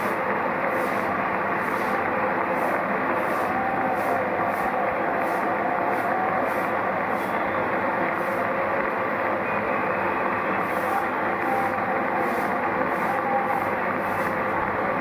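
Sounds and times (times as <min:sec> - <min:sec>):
crowd applauding and cheering: 0:00.1 - 0:15.0.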